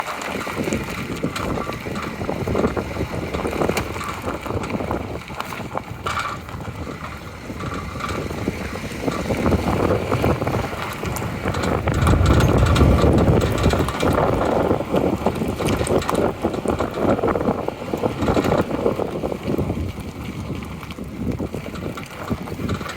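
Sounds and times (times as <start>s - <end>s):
road and tyre rumble: 0.0s - 22.9s.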